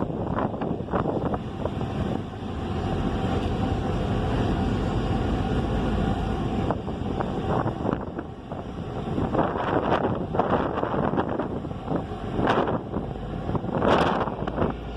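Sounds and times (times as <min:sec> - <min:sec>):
ferry engine rumble: 0:00.0 - 0:14.9
wind buffeting microphone: 0:00.0 - 0:14.9.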